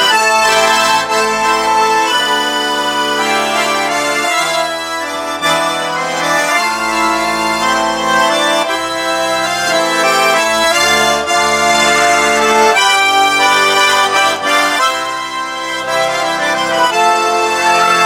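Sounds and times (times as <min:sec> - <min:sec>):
button accordion melody: 0:00.0 - 0:18.0.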